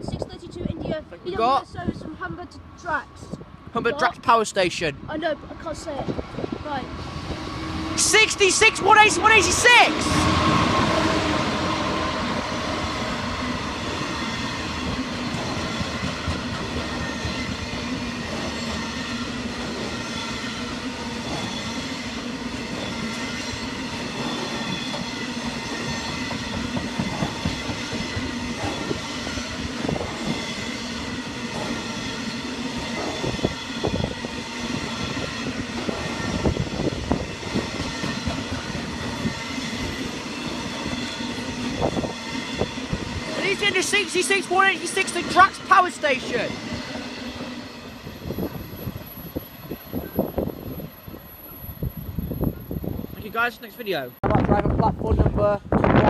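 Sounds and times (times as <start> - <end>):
diesel locomotive passing: 0.1 - 56.0.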